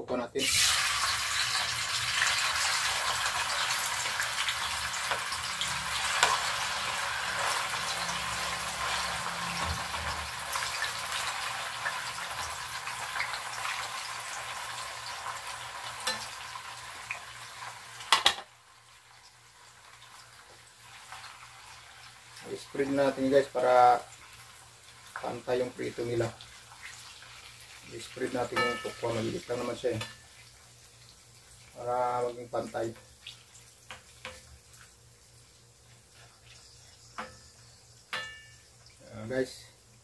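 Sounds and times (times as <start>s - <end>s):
tofu sizzling in a frying pan: 0.4s - 40.0s.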